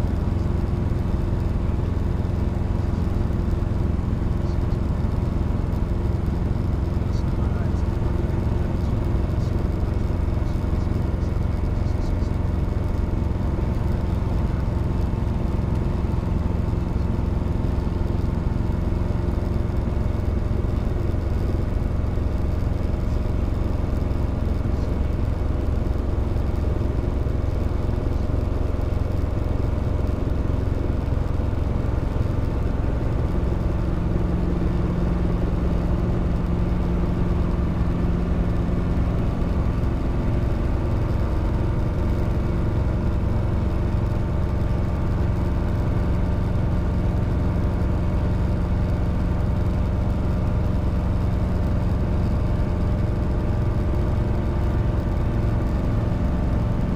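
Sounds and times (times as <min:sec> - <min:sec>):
helicopter engine and rotors drone: 0:00.0 - 0:56.9.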